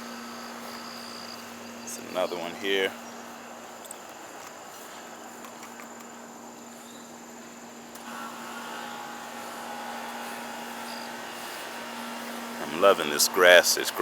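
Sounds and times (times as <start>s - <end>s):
insect chorus with crickets: 0.0s - 14.0s
steady whine: 0.0s - 14.0s.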